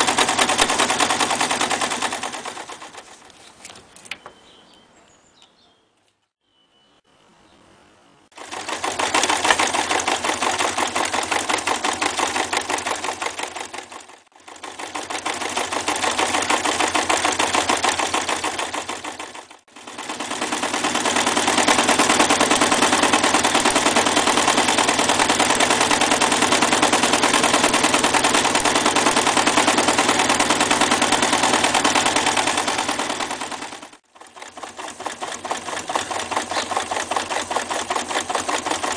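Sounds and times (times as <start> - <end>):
sewing machine stitching: 0.0 - 3.3, 8.3 - 38.9.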